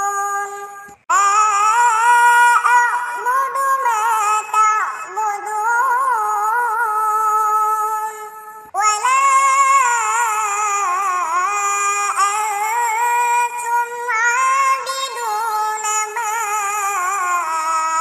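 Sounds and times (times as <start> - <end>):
high solo voice singing: 0.0 - 18.0.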